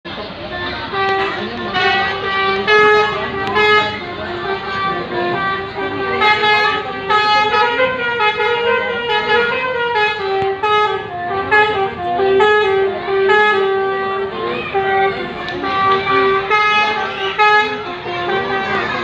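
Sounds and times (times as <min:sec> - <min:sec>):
bus horn playing a melody: 0:00.1 - 0:19.0.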